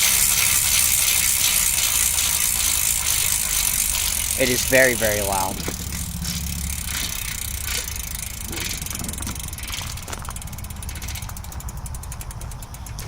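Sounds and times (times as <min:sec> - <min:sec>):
bicycle hub clicking: 0:00.0 - 0:13.0.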